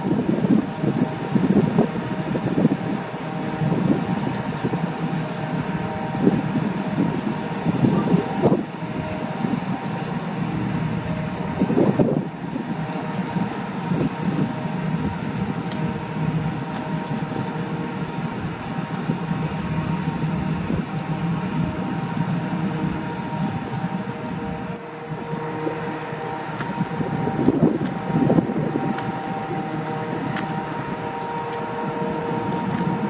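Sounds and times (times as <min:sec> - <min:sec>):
faint steady tones: 0:00.0 - 0:33.0
machinery hum: 0:00.0 - 0:33.0
wind buffeting microphone: 0:00.0 - 0:33.0.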